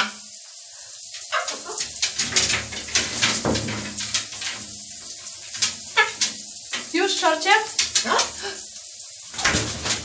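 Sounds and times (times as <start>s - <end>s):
running shower water: 0.0s - 10.0s
bird flapping wet wings: 1.1s - 8.7s, 9.3s - 10.0s.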